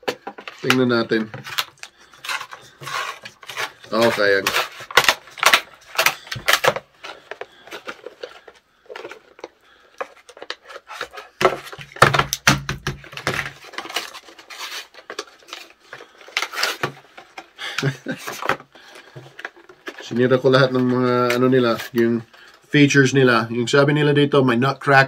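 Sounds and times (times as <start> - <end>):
plastic packaging handling: 0.0 - 22.8.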